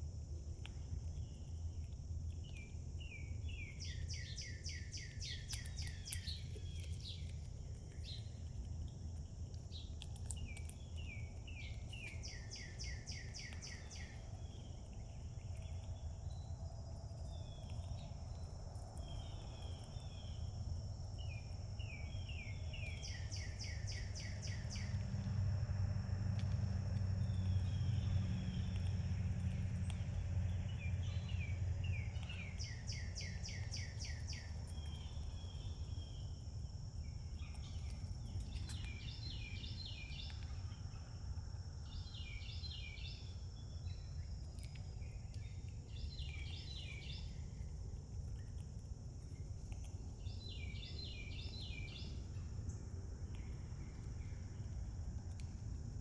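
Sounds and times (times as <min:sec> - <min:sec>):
low outdoor rumble: 0:00.0 - 0:56.0.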